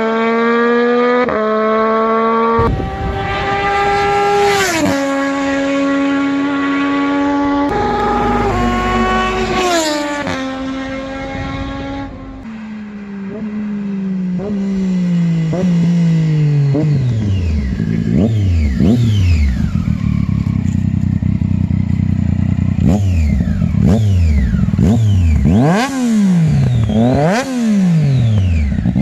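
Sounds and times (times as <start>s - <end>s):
motorcycle engine revving past: 0.0s - 29.0s.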